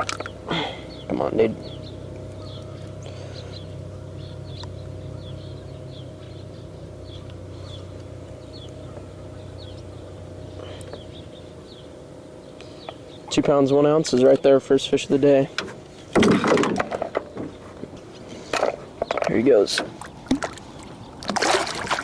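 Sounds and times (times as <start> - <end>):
small birds chirping: 0.0 - 16.1, 17.0 - 21.3
low hum: 0.0 - 22.0.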